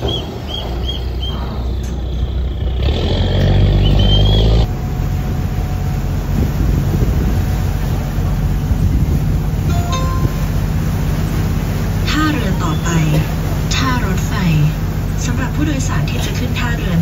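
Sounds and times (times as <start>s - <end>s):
boat diesel engine rumbling: 0.0s - 17.0s.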